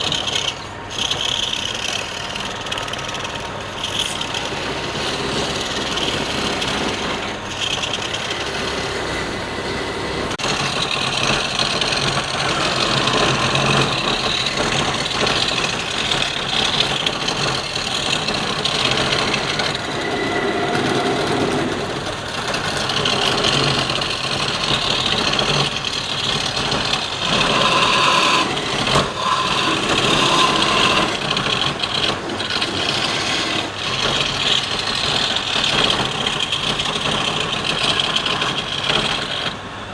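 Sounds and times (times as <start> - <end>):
lathe motor hum: 0.0 - 39.9
turning tool scraping spinning wood: 0.0 - 39.9.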